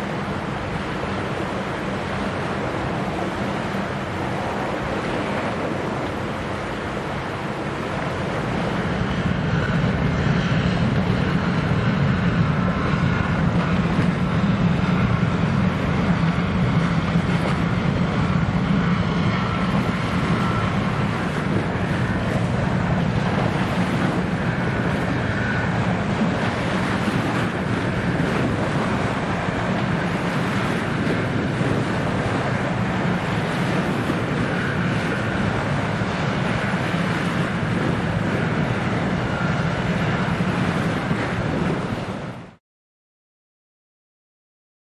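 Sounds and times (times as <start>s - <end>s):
ship engine droning: 0.0s - 42.6s
waves washing: 0.0s - 42.6s
wind on microphone: 0.0s - 42.6s.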